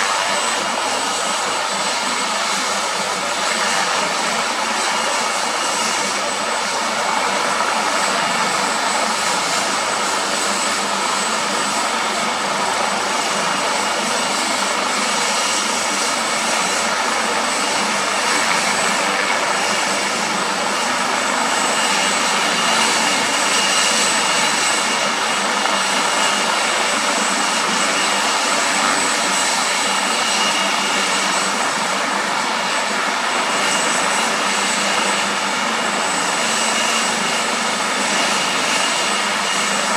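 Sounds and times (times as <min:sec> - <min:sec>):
helicopter turbine engines: 0:00.0 - 0:39.9.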